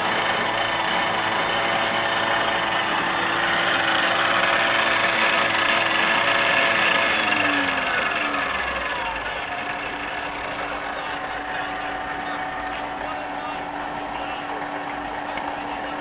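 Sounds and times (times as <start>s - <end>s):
milling machine cutting: 0.0s - 16.0s.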